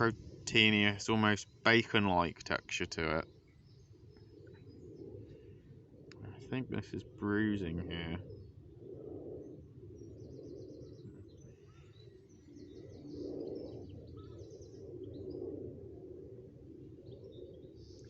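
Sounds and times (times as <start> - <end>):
low outdoor background rumble: 0.0 - 18.0
wild birds trilling: 0.0 - 18.0.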